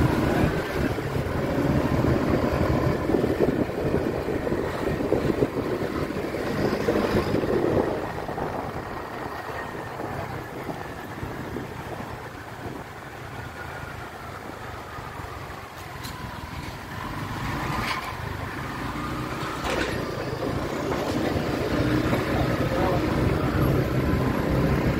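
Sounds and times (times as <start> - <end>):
road and wind noise: 0.0 - 24.9.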